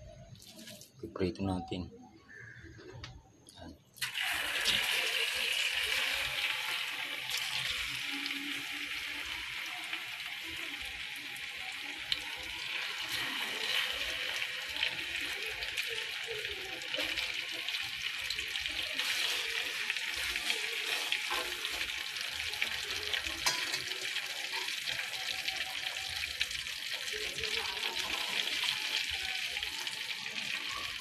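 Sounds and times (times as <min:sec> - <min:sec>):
meat deep-frying in oil: 0:00.2 - 0:01.0, 0:04.0 - 0:31.0
oil popping and crackling: 0:00.3 - 0:01.0, 0:04.0 - 0:31.0.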